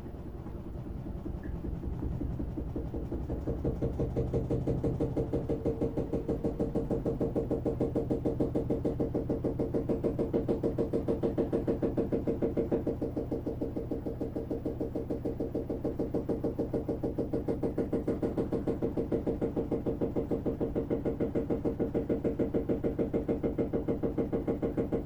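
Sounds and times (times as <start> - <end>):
washing machine spin cycle: 0.0 - 25.0.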